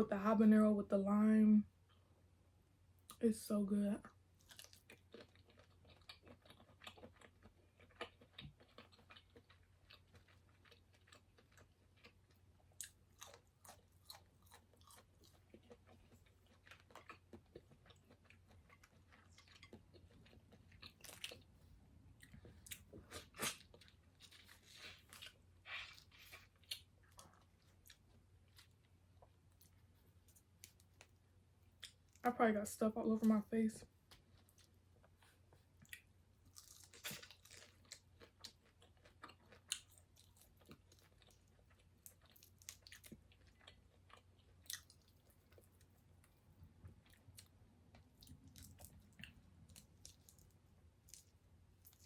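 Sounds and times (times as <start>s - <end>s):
person chewing food: 4.1s - 32.2s, 33.9s - 52.0s.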